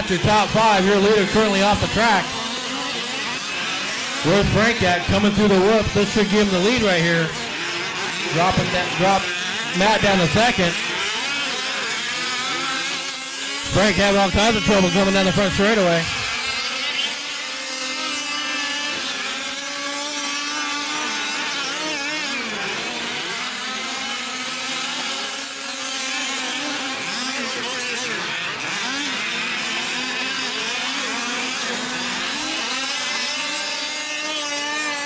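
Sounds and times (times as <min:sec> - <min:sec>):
small two-stroke engines revving: 0:00.0 - 0:35.0.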